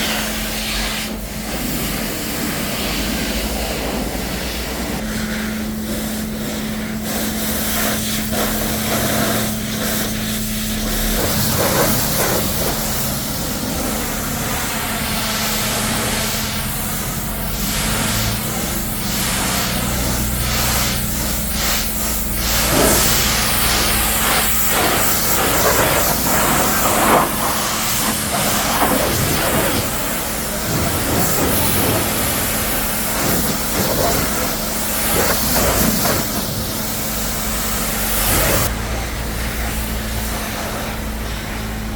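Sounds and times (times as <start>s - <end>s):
pressure washer water jet hiss: 0.0s - 41.9s
steady low hum: 0.0s - 41.9s.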